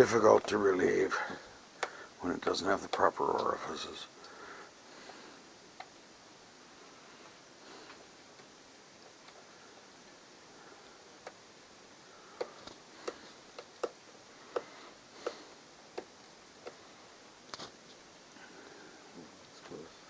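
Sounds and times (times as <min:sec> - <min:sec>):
faint room hiss: 0:00.0 - 0:20.0.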